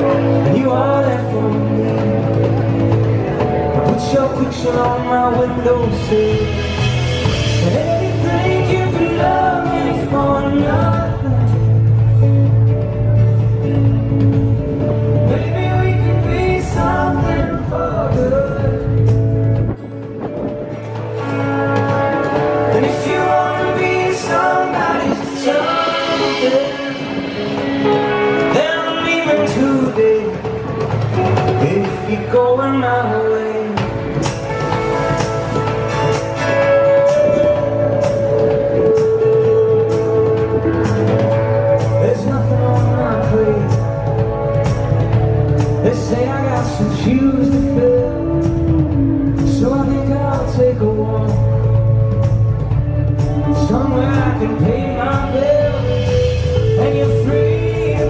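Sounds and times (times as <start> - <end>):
person singing: 0.0 - 12.9, 14.7 - 19.6, 21.2 - 58.0
acoustic guitars: 0.0 - 58.0
electric guitar: 0.0 - 58.0.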